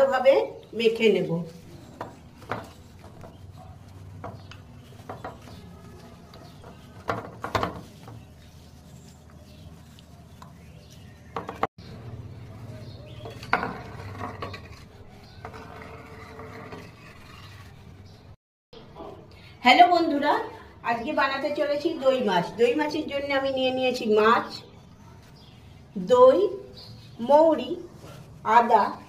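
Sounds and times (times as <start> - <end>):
hands mixing wet marinade: 0.0 - 16.1, 21.0 - 29.0.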